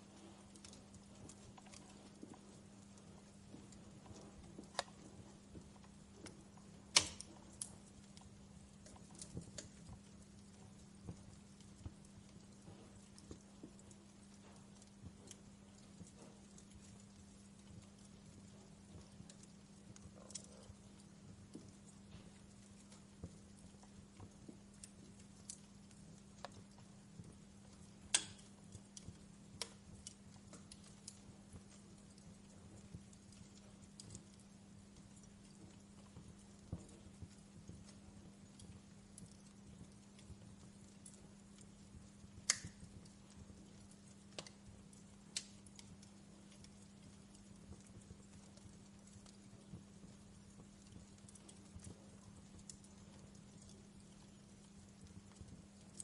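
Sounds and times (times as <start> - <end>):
steady low hum: 0.0 - 56.0
wood fire crackling: 0.0 - 56.0.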